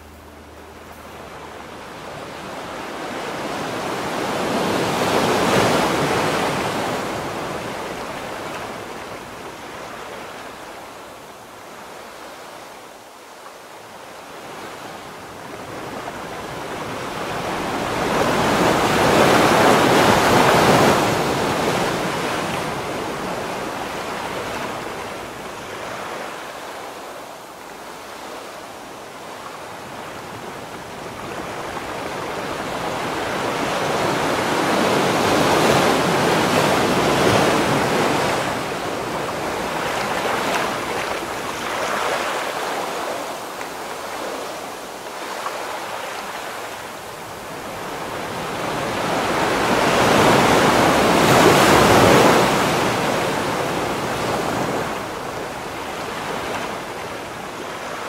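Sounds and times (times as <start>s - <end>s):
ocean waves rushing in: 0.0s - 58.0s.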